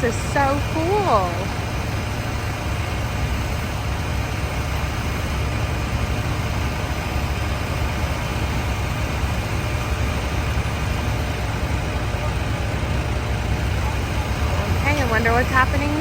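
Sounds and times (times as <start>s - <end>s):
diesel engines idling: 0.0s - 16.0s.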